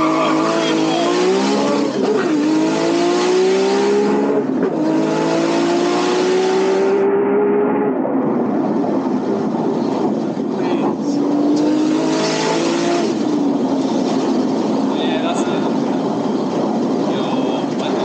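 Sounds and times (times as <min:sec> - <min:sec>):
car engine revving: 0:00.0 - 0:18.0
road and wind noise: 0:00.0 - 0:18.0.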